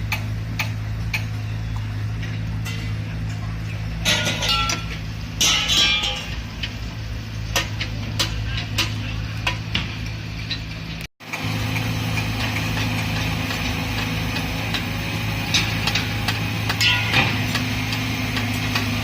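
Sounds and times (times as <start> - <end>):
diesel engine running: 0.0 - 19.0
sharp metallic knocks: 2.2 - 6.8, 7.5 - 10.7, 11.3 - 19.0.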